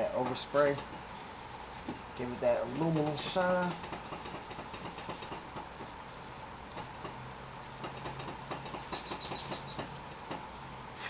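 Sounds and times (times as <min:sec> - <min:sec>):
steel wool scrubbing metal: 0:00.0 - 0:11.0.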